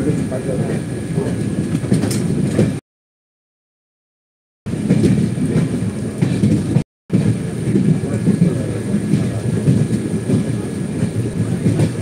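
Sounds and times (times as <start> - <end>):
train wheels rumbling on track: 0.0 - 2.8, 4.7 - 12.0.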